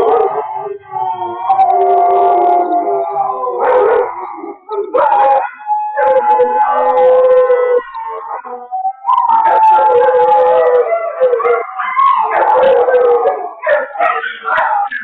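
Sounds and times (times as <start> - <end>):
dogs howling: 0.0 - 15.0.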